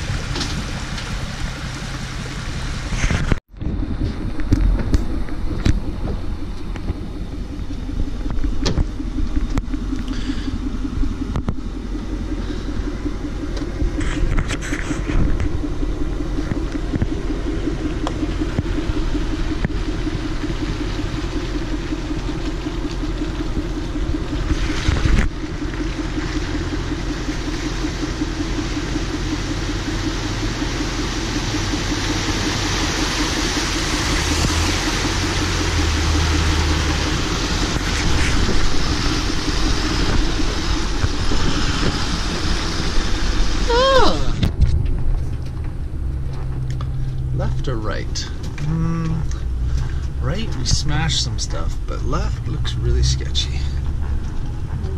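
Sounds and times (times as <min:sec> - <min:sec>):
diesel pickup engine rumble: 0:00.0 - 0:54.9.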